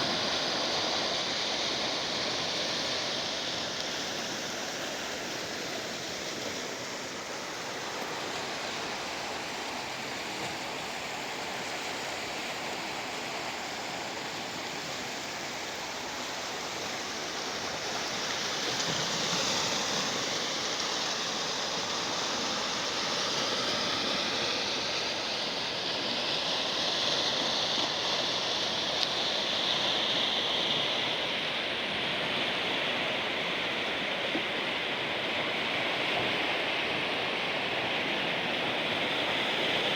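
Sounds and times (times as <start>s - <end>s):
sea surf washing on shore: 0.0s - 39.9s.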